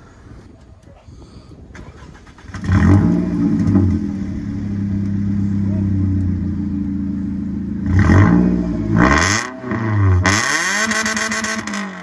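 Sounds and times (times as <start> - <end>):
car engine idling and revving: 2.3 - 12.0.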